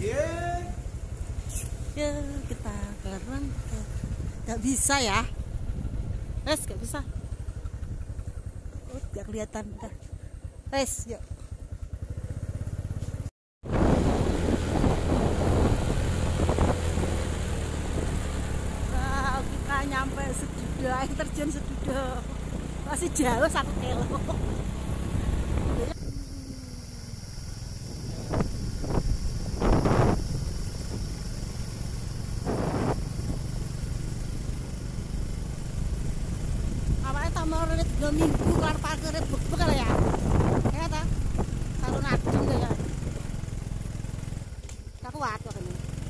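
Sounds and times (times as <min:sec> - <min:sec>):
motorcycle engine: 0:00.0 - 0:46.0
wind and road noise: 0:00.0 - 0:46.0.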